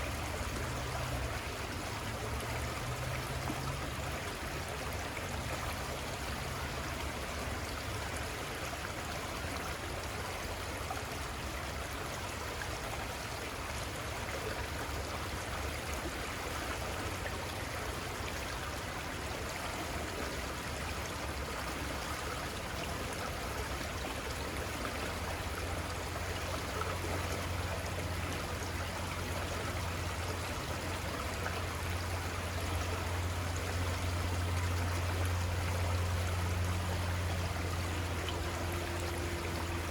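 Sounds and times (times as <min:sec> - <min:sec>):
river rushing and trickling: 0:00.0 - 0:39.9.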